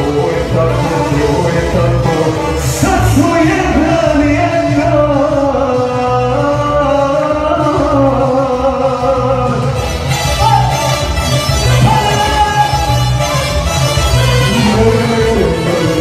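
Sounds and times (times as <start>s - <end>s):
live band playing folk-pop music: 0.0s - 16.0s.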